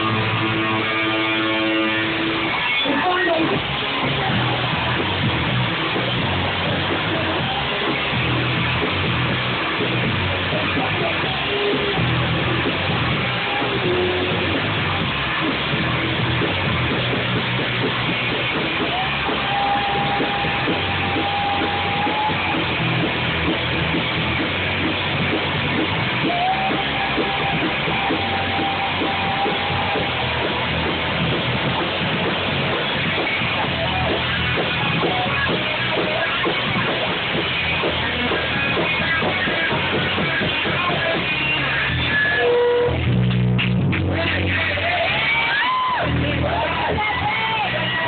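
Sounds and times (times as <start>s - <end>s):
bass guitar: 0.0s - 48.0s
drum kit: 0.0s - 48.0s
electric guitar: 0.0s - 48.0s.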